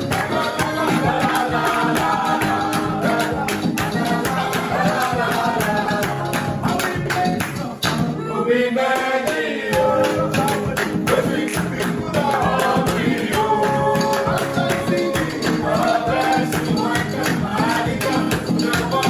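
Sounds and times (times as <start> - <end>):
upbeat gospel praise song: 0.0 - 19.0.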